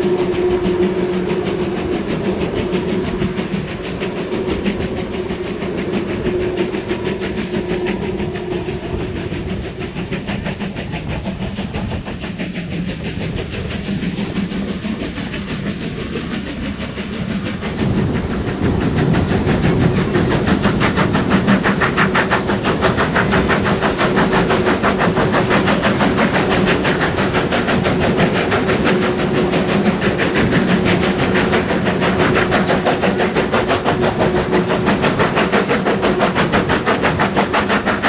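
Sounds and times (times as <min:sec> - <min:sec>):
steam locomotive exhaust beats: 0:00.0 - 0:38.0
train running noise: 0:00.0 - 0:38.0.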